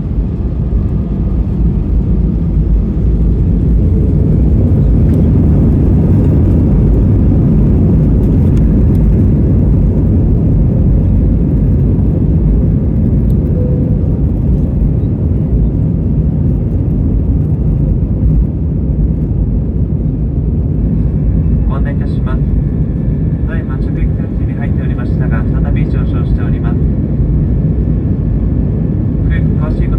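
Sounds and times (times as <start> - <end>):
airliner cabin engine rumble: 0.0 - 29.9.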